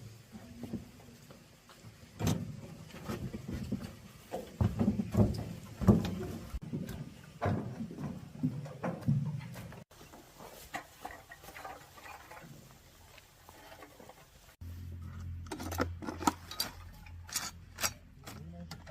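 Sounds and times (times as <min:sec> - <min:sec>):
tools and engine parts clattering: 0:02.2 - 0:12.7, 0:13.5 - 0:18.9.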